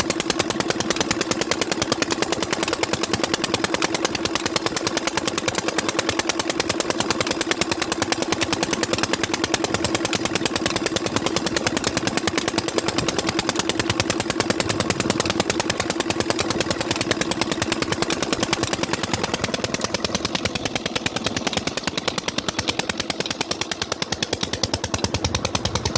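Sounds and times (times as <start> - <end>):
old engine rapid exhaust beats: 0.0 - 25.9.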